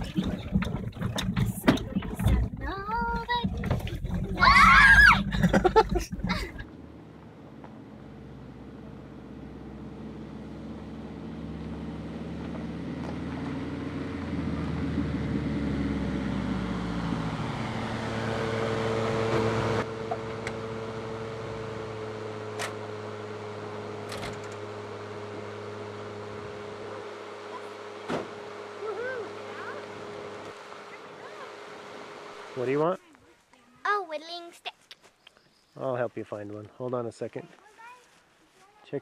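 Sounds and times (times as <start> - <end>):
van engine: 0.0 - 34.6.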